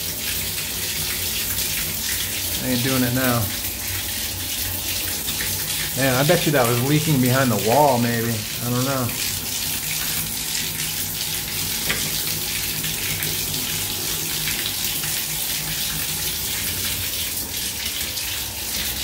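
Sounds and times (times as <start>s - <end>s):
water splashing into a bathtub: 0.0s - 19.0s.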